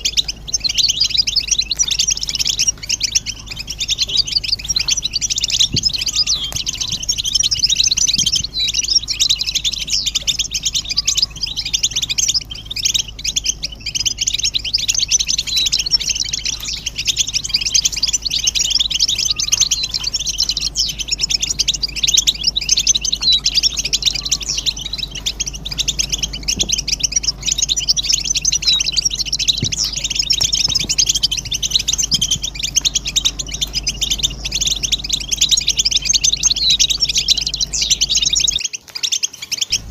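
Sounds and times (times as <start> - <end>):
goldfinches twittering and singing: 0.0 - 39.9.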